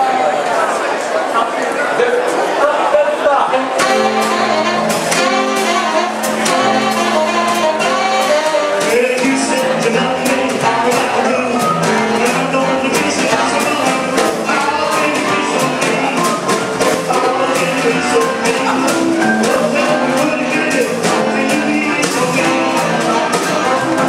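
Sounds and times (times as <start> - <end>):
man singing: 2.6 - 24.0
piano: 3.6 - 24.0
drums: 3.7 - 24.0
upright bass: 3.7 - 24.0
electric guitar: 3.8 - 24.0
saxophones: 3.8 - 24.0.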